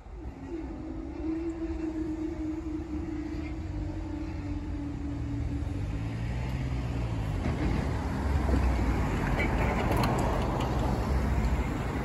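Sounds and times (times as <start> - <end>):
road vehicle engines rumbling: 0.0 - 12.0.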